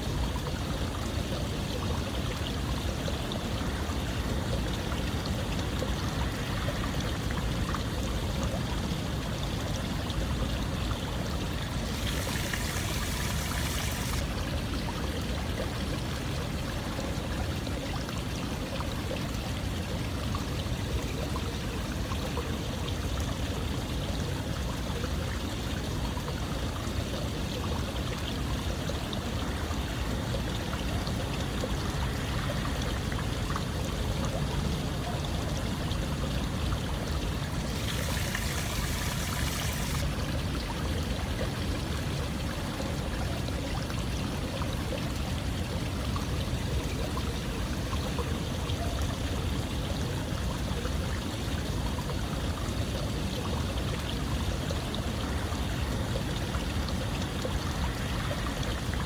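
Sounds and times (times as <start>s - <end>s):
running water rushing and splashing: 0.0s - 59.0s.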